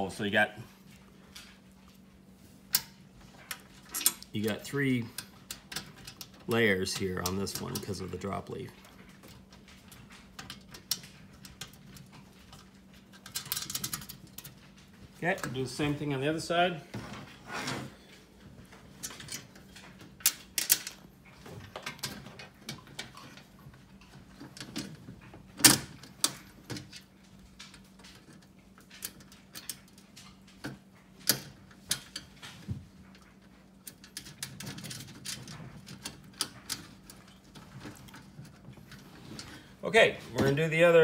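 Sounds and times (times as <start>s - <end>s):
sheet-steel parts clicking and clanking: 2.7s - 16.8s, 18.1s - 41.0s.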